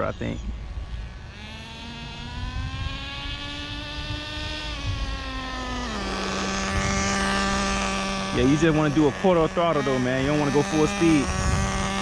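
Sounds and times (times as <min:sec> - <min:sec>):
small nitro engine running: 0:00.0 - 0:12.0.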